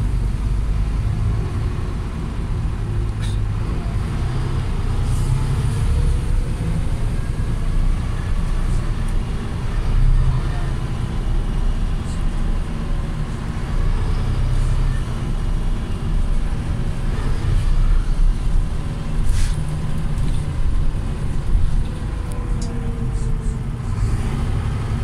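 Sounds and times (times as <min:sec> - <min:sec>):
bus engine low rumble: 0:00.0 - 0:25.0.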